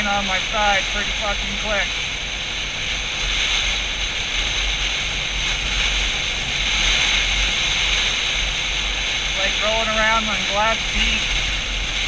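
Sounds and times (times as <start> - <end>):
motorcycle low rumble: 0.0 - 12.0
wind rushing over microphone: 0.0 - 12.0.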